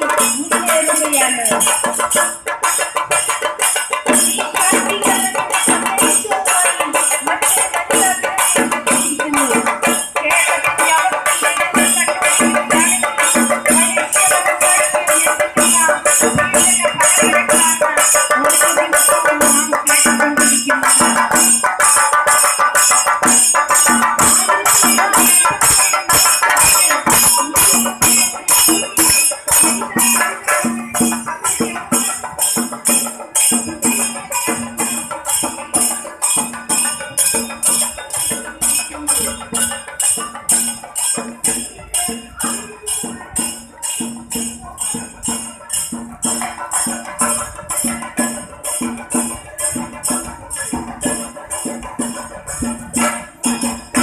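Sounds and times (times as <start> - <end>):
bright metallic jingle: 0.0 - 54.0
drums beaten fast: 0.0 - 54.0.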